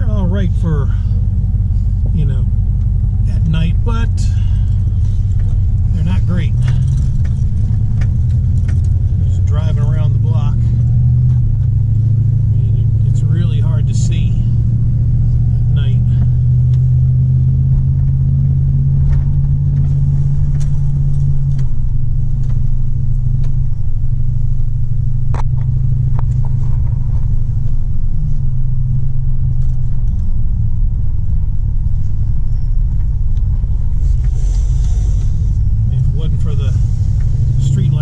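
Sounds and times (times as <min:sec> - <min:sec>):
engine and road noise drone: 0:00.0 - 0:38.0.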